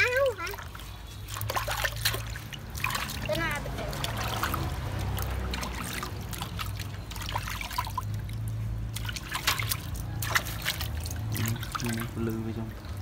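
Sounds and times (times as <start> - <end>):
water dripping: 0.0 - 13.0
water splashing in a metal basin: 0.0 - 13.0.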